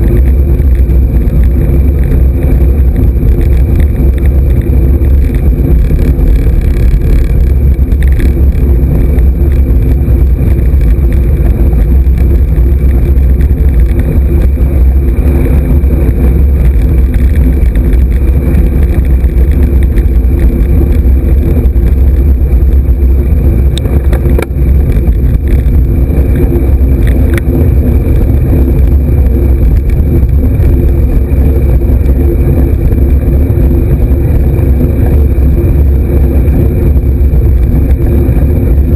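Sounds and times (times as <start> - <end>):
road rumble: 0.0 - 38.9
wind: 0.0 - 38.9.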